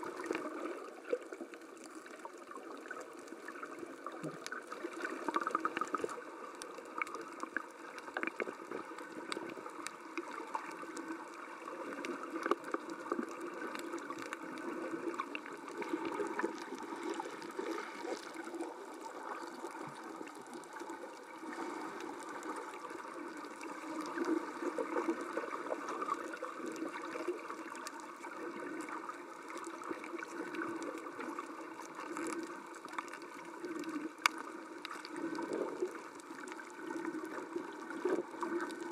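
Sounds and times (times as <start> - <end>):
muffled underwater churning: 0.0 - 38.9
small underwater clicks: 0.0 - 38.9.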